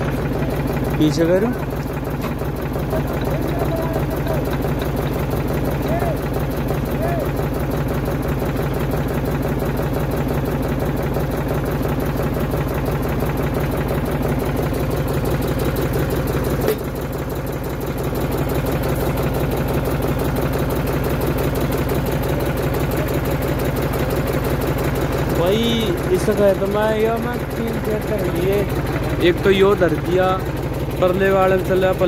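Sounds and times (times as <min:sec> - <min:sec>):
tractor diesel engine idling: 0:00.0 - 0:32.0.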